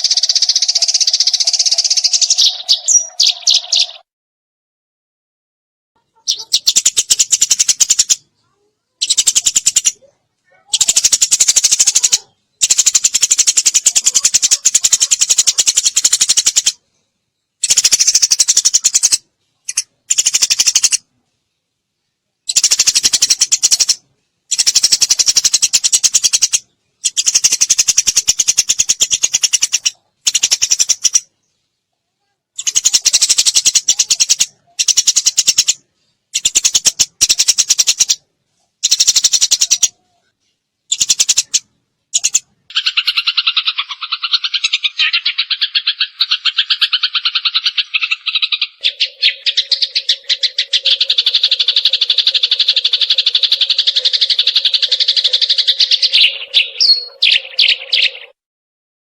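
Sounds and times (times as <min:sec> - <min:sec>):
sparrow rapid chattering song: 0:00.0 - 0:04.0, 0:06.0 - 0:21.1, 0:22.4 - 0:31.6, 0:32.2 - 0:40.3, 0:40.9 - 0:58.4.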